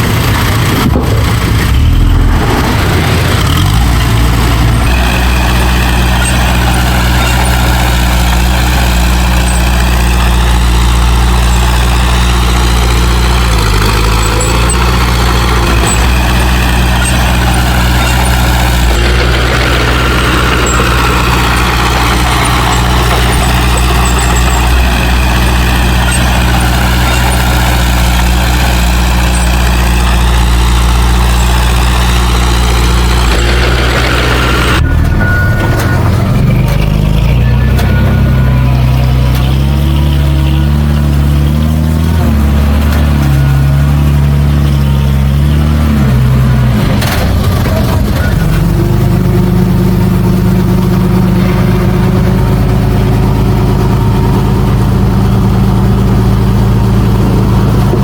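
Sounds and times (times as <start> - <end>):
heavy diesel engine droning: 0.0 - 58.0
high engine whine: 0.0 - 58.0.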